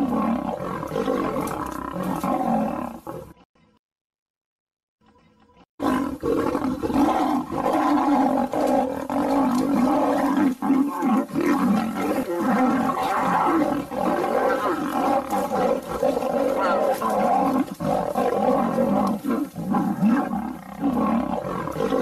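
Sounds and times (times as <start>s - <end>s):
lion roaring and growling: 0.0s - 3.4s, 5.8s - 22.0s.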